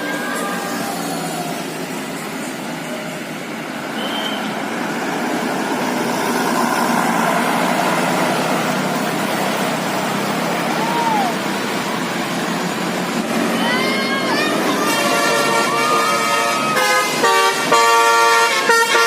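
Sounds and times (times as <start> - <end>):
bus engine driving by: 0.0 - 19.0.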